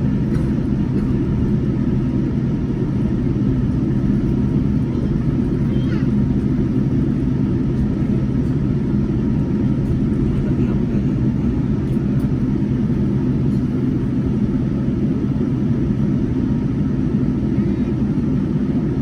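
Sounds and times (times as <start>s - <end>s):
cabin air hum: 0.0s - 19.0s
jet engines idling: 0.0s - 19.0s.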